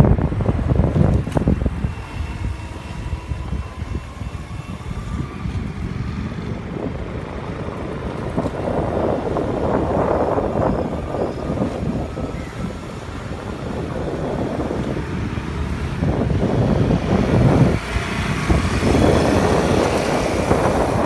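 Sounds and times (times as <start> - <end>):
low travel rumble: 0.0 - 21.0
wind buffeting microphone: 0.0 - 21.0.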